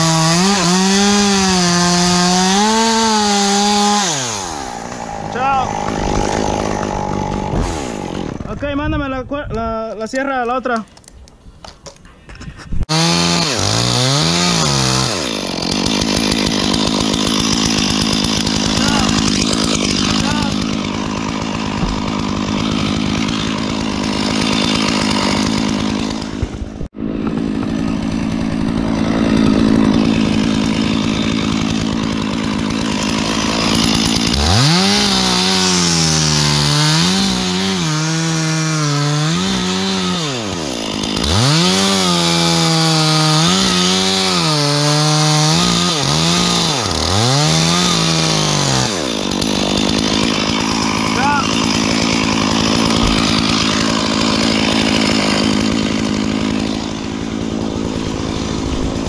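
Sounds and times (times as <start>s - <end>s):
chainsaw revving: 0.0s - 8.8s, 12.9s - 59.0s.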